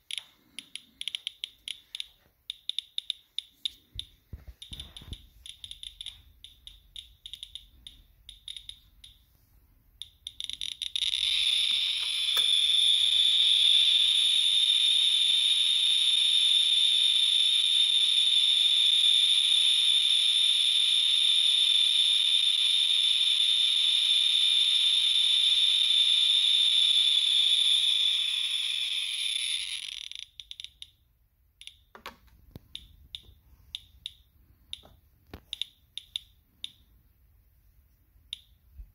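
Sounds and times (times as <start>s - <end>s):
geiger counter clicking and buzzing: 0.0s - 9.3s, 10.0s - 31.0s, 31.6s - 36.9s.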